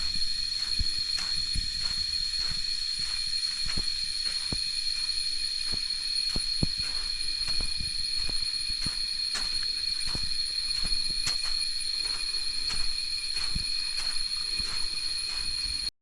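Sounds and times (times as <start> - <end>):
high-pitched insect drone: 0.0 - 15.9.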